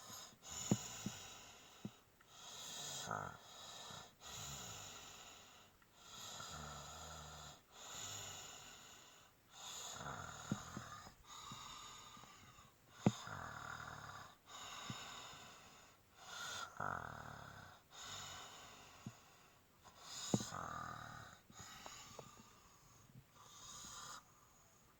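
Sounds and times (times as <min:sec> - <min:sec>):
snoring: 0:00.0 - 0:19.3, 0:20.0 - 0:22.6, 0:23.4 - 0:24.5.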